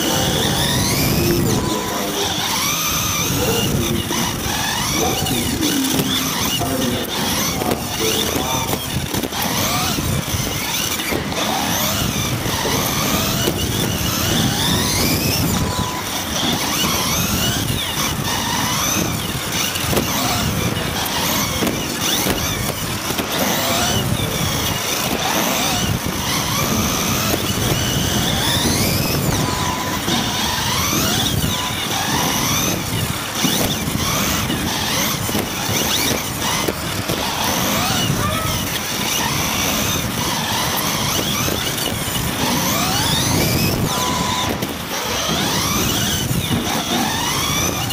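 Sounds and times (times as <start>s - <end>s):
rc car electric motors whining: 0.0s - 47.9s.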